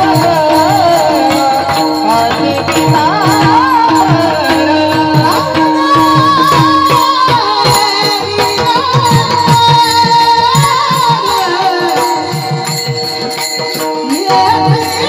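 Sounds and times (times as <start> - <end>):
drum rhythm: 0.0 - 15.0.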